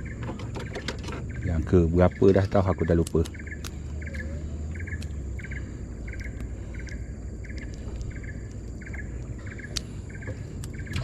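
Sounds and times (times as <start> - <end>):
insects chirping buzzy pulses: 0.0 - 11.0.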